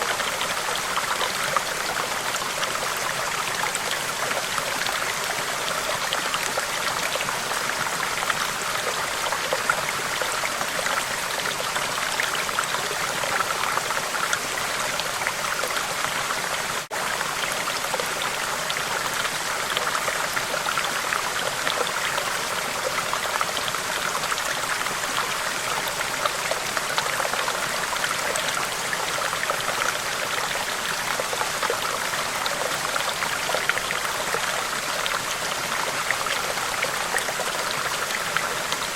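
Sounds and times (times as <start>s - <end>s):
stream trickling and flowing: 0.0s - 38.9s.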